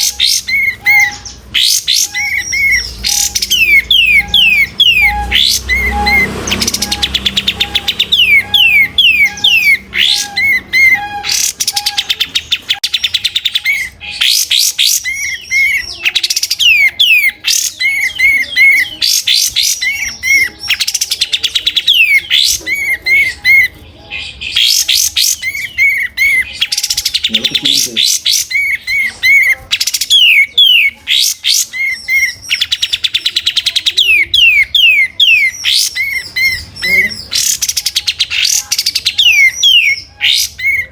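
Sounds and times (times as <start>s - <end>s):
songbird whistles and trills: 0.0s - 40.9s.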